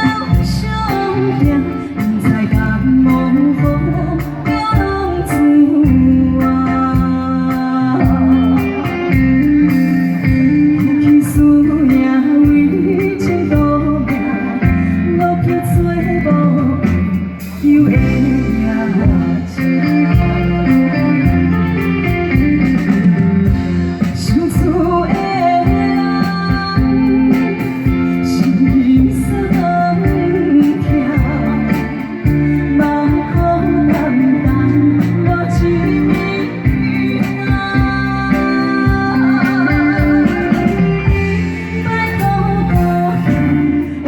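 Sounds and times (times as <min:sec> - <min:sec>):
guitar music: 0:00.0 - 0:44.0
woman singing a ballad: 0:00.0 - 0:44.0.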